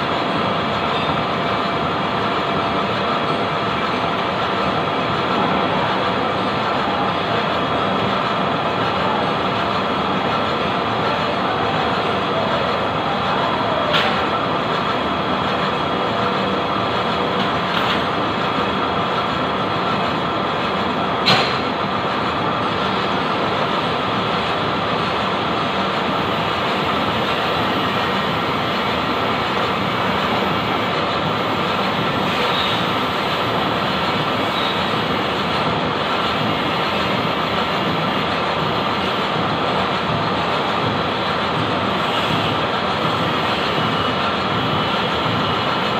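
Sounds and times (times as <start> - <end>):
lathe running: 0.0 - 45.9.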